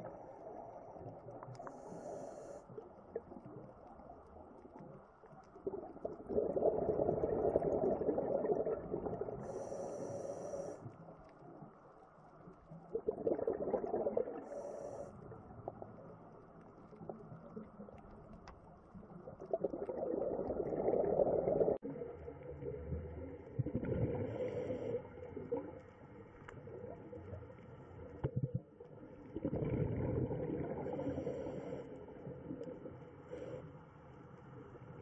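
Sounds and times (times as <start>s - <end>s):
underwater regulator bubbles: 1.0s - 10.7s, 12.8s - 25.9s, 28.1s - 33.5s.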